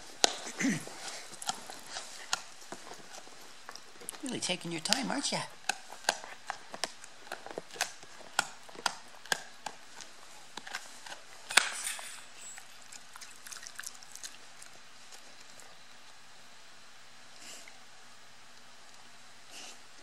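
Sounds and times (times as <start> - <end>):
dog gnawing chew with crunching clicks: 0.0 - 16.2.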